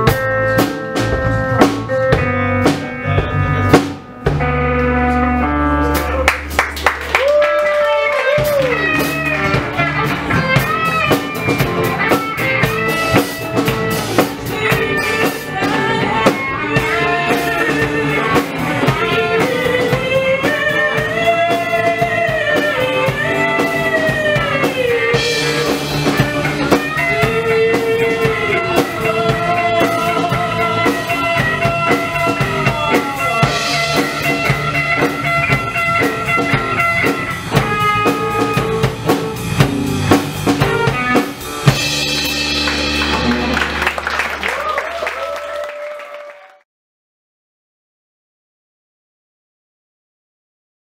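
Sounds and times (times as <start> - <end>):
bending lead guitar melody: 0.0 - 44.5
live rock band playing: 0.0 - 46.4.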